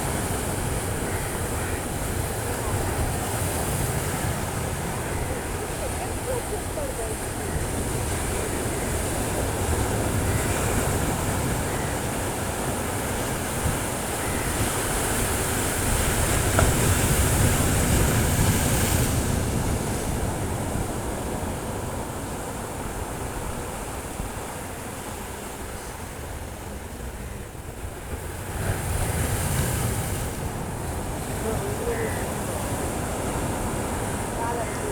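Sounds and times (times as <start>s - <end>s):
sea waves on rocky shore: 0.0s - 34.9s.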